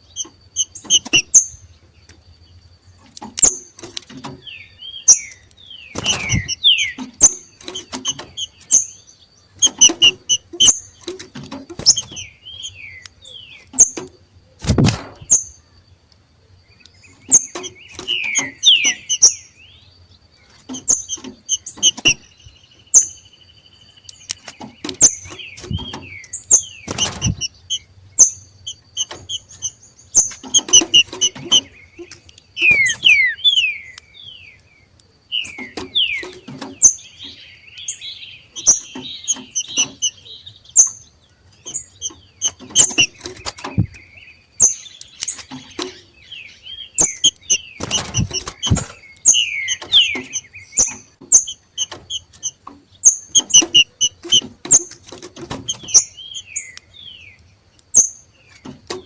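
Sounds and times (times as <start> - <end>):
bird chatter with whistled notes: 0.0 - 15.6, 16.8 - 59.0.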